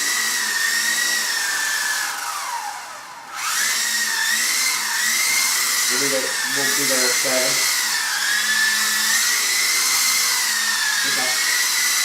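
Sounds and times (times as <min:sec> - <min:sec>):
rc helicopter motor whining: 0:00.0 - 0:12.0.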